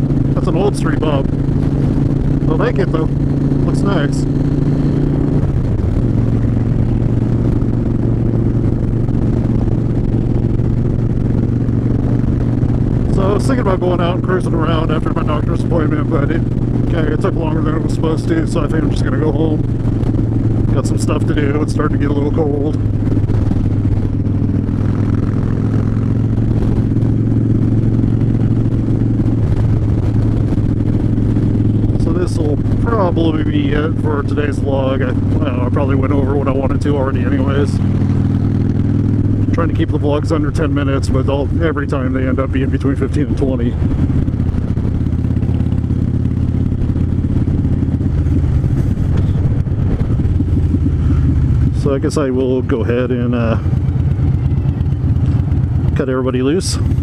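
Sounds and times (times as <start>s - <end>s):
motorcycle engine running steadily: 0.0s - 57.0s.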